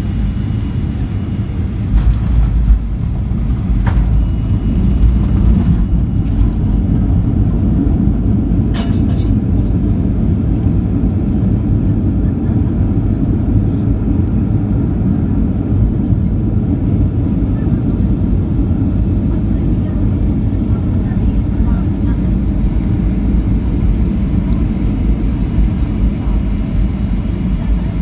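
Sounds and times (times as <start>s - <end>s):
airliner cabin rumble on runway: 0.0s - 28.0s.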